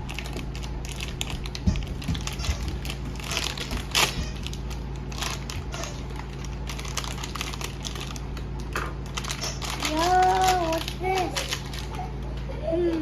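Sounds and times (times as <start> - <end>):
packaging crinkling and tearing: 0.0 - 12.1.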